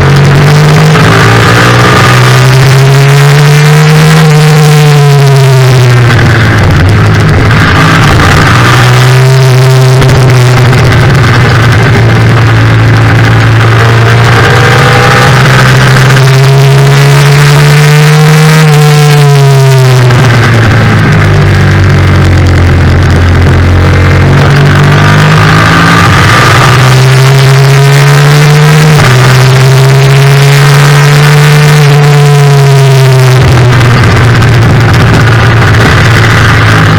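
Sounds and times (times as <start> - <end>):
racing motorcycle engine revving: 0.0 - 36.9.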